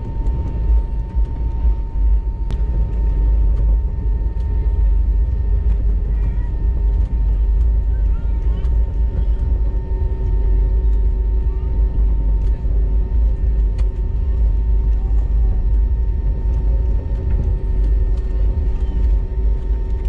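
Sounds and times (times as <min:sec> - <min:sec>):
aircraft cabin rumble: 0:00.0 - 0:20.0
jet engines humming: 0:00.0 - 0:20.0.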